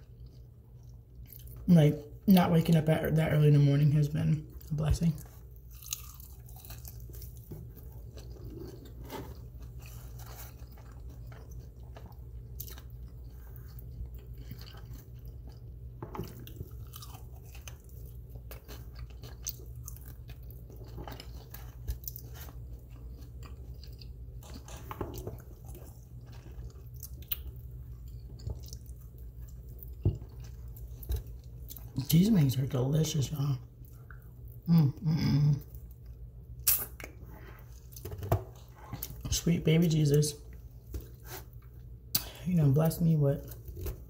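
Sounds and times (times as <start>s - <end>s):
person chewing chicken wings: 0.0s - 2.2s, 4.5s - 32.7s, 33.7s - 39.5s.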